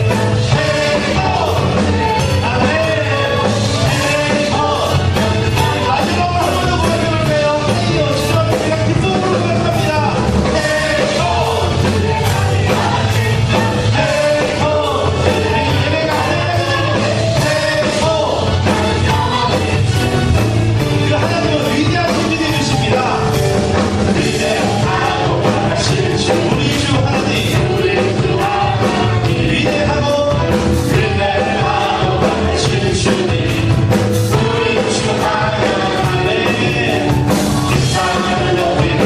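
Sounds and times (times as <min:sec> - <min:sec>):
singing: 0:00.0 - 0:20.2, 0:24.2 - 0:39.0
drum beat: 0:00.0 - 0:39.0
worship band music: 0:00.0 - 0:39.0.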